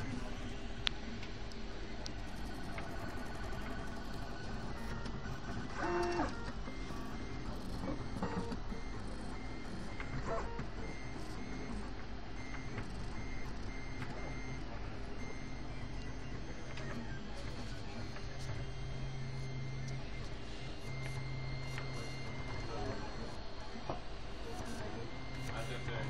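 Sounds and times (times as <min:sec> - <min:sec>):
stepper motors whining: 0:03.3 - 0:26.0.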